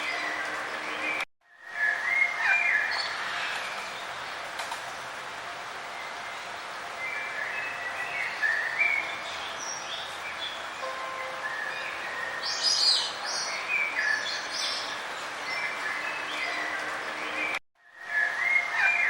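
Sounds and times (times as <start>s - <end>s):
songbirds chirping and singing: 0.0s - 19.0s
steady background hiss: 0.0s - 19.0s.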